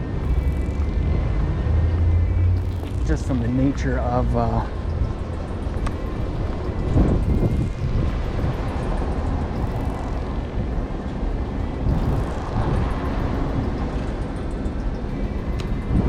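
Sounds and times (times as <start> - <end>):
city street rumble: 0.0 - 16.0.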